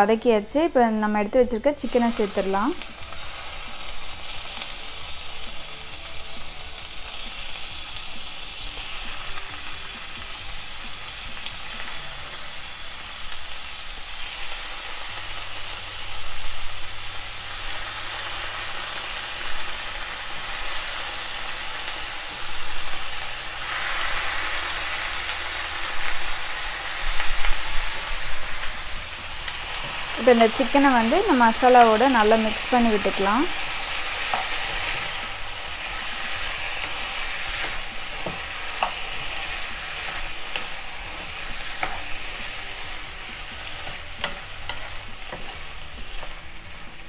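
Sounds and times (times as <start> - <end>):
chicken sizzling in frying pan: 1.8 - 47.0.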